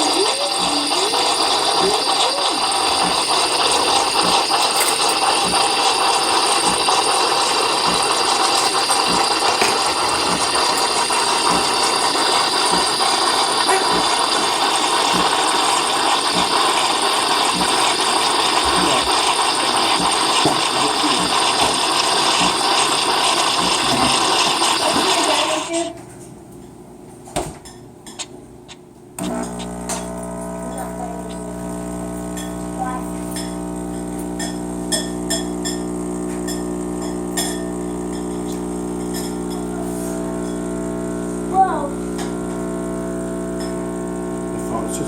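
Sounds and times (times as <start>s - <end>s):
blender motor running: 0.0s - 25.9s, 29.2s - 45.0s.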